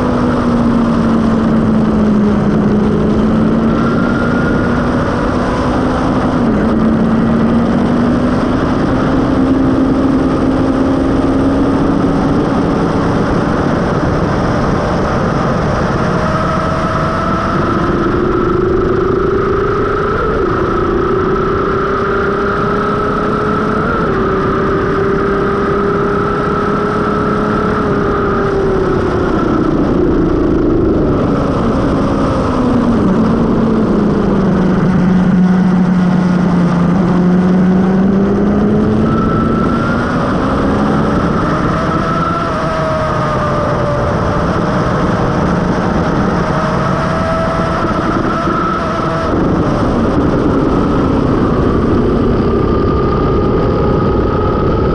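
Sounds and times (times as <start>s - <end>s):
motorcycle engine at high revs: 0.0s - 54.9s
wind rush on microphone: 0.0s - 54.9s.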